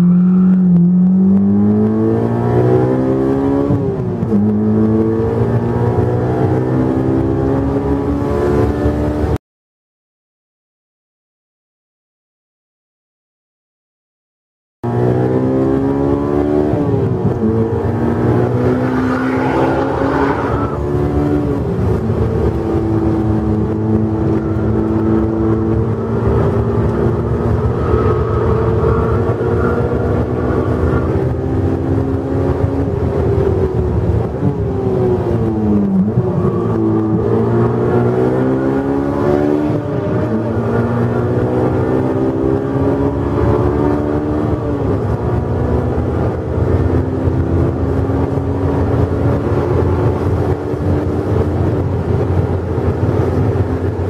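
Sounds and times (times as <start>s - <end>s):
car engine revving: 0.0s - 9.4s, 14.8s - 54.0s.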